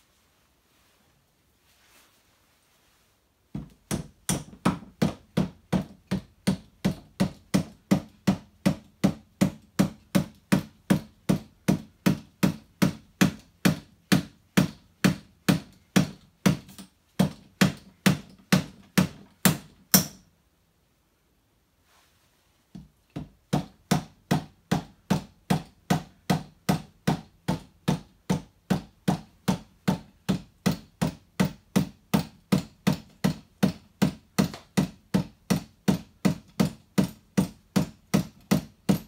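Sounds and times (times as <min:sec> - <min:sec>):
mallet hammering on metal: 0:03.6 - 0:20.2, 0:23.2 - 0:39.0.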